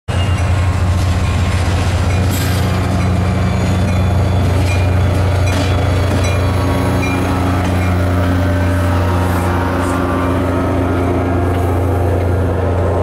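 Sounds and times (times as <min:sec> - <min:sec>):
diesel locomotive engine humming: 0:00.1 - 0:13.0
wheels clicking on rails: 0:00.1 - 0:13.0.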